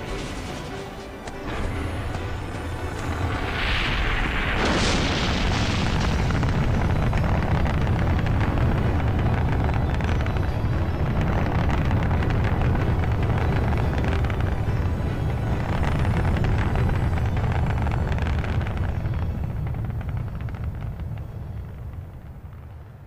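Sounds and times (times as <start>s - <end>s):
rocket blast: 0.0s - 22.8s
rocket engine roaring: 0.0s - 23.0s.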